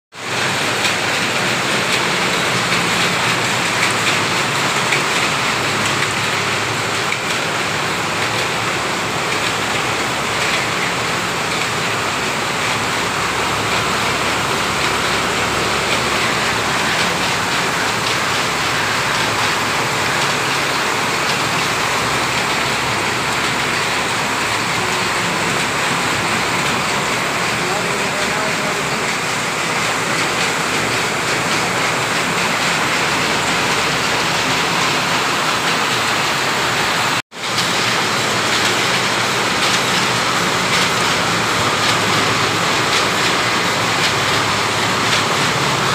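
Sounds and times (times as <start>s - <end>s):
yarn winding machinery running: 0.2s - 45.9s.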